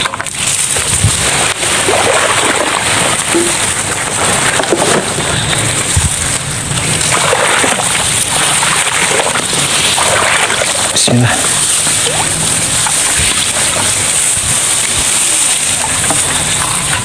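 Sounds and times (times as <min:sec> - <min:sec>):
grass brushing against legs: 0:02.8 - 0:16.9.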